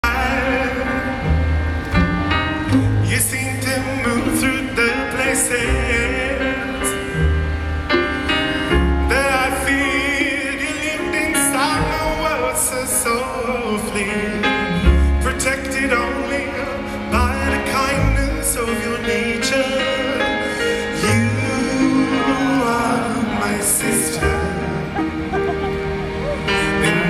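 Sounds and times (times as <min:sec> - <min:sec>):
orchestral accompaniment: 0:00.0 - 0:27.0.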